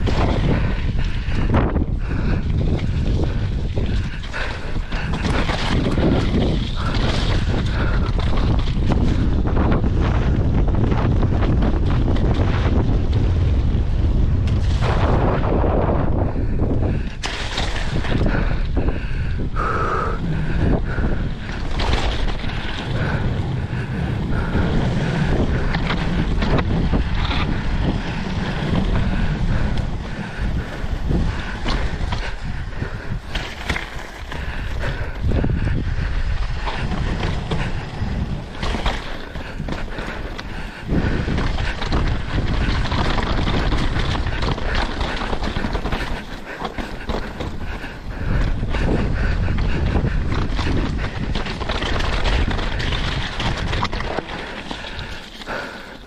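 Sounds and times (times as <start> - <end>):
bike rattling: 0.0 - 56.0
bike tyres rumbling over wooden planks: 0.0 - 56.0
wind buffeting microphone: 0.0 - 56.0.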